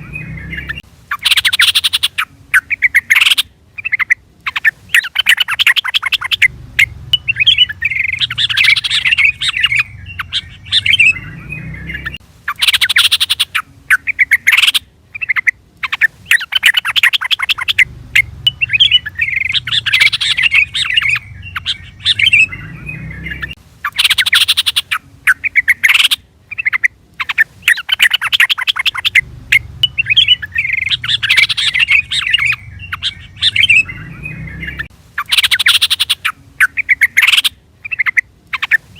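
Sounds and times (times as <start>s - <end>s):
bird chattering song and chirps: 0.0s - 38.9s.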